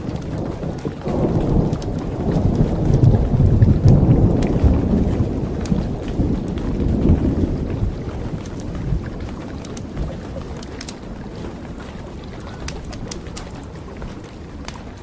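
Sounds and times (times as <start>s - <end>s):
campfire crackles: 0.0s - 15.0s
rolling thunder: 0.0s - 15.0s
steady rain: 0.0s - 15.0s.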